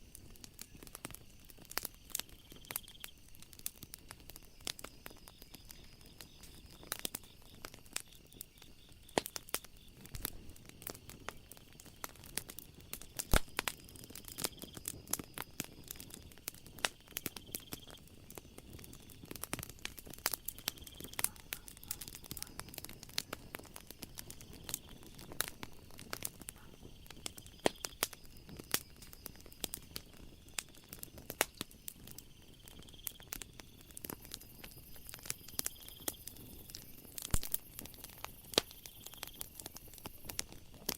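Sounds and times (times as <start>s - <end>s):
faint high insect trill: 0.0s - 40.9s
wood fire crackling: 0.0s - 40.9s.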